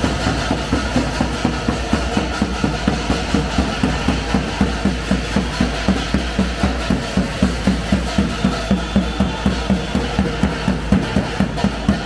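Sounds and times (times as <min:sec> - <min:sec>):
bass drum beaten in steady rhythm: 0:00.0 - 0:12.0.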